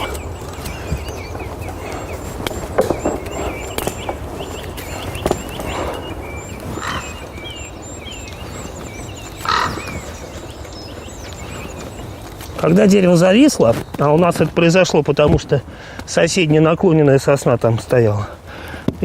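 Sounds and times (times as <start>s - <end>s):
wood cracking: 0.0s - 16.1s
small birds chirping: 0.0s - 18.8s.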